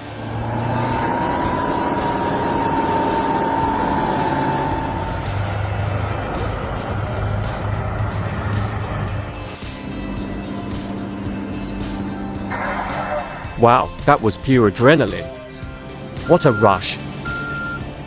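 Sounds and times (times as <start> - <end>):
heavy vehicle engine whine: 0.0 - 14.2, 15.2 - 18.0.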